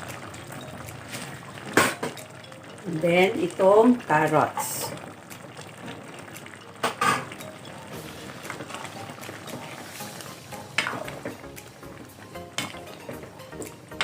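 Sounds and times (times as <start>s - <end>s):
stew bubbling: 0.0s - 14.0s.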